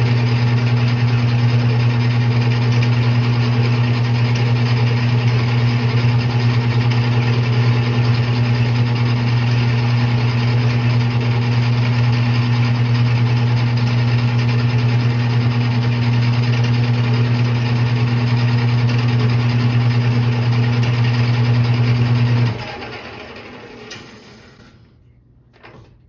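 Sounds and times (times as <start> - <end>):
metal lathe running: 0.0 - 23.9.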